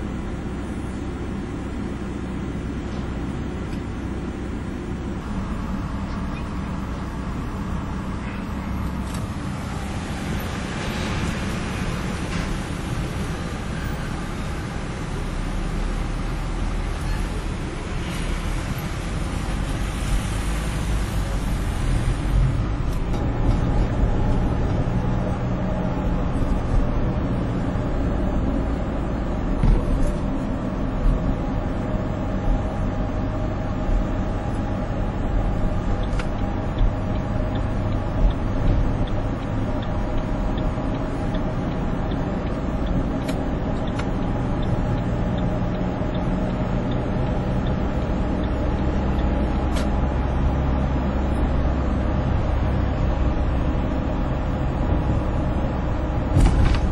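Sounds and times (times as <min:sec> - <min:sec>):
road rumble: 0:00.0 - 0:56.9
vehicle engine drone: 0:00.0 - 0:56.9.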